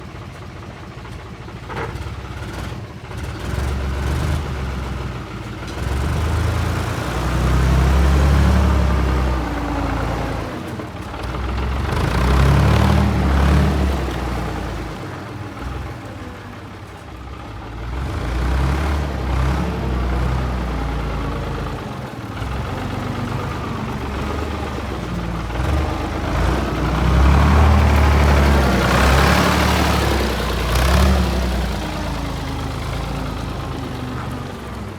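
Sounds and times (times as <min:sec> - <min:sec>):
diesel truck engine revving: 0:02.3 - 0:34.9.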